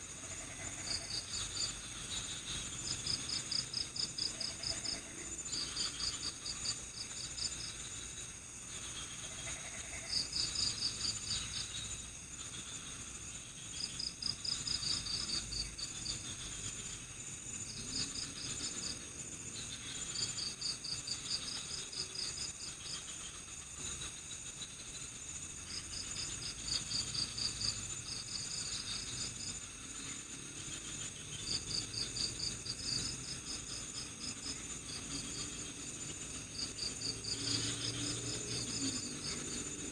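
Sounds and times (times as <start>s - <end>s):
crickets trilling: 0.0s - 39.9s
rapid cricket chirps: 0.0s - 39.9s.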